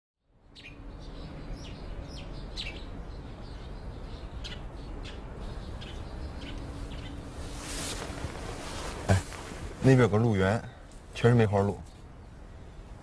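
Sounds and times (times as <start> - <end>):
small birds chirping: 0.3 - 13.0
low outdoor rumble: 0.4 - 13.0.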